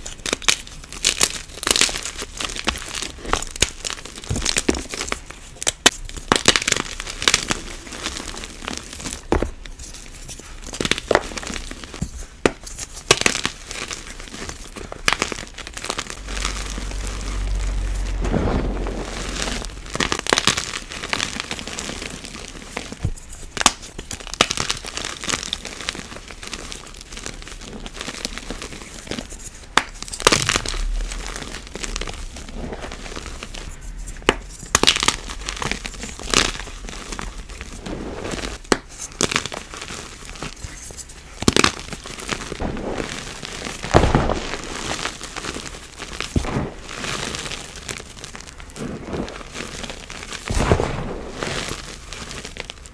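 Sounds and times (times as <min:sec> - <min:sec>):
chalk crunching and cracking: 0:00.0 - 0:52.9
chalk crumbling: 0:07.0 - 0:52.9.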